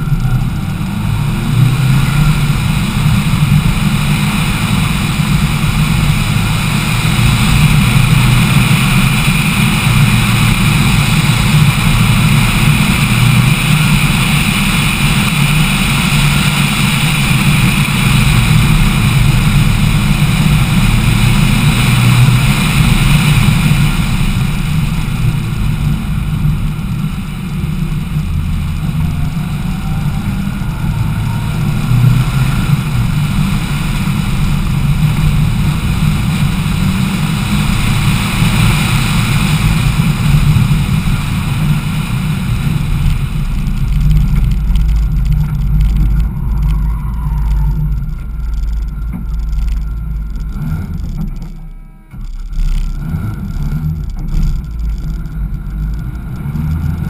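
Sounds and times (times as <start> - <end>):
rally car engine droning: 0.0 - 57.0.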